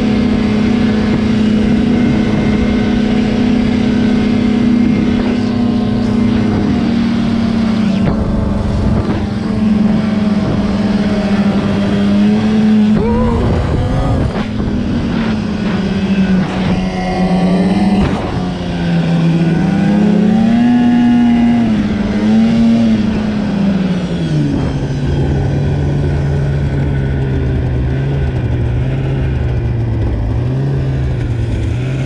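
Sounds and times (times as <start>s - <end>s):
snowmobile engine revving: 0.0s - 32.0s.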